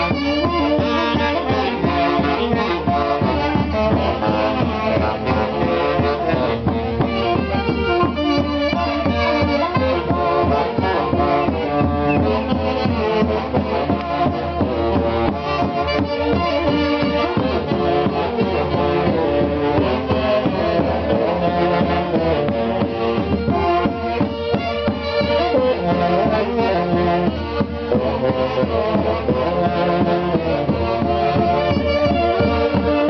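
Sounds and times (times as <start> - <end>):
wind and brass band playing: 0.0 - 33.0.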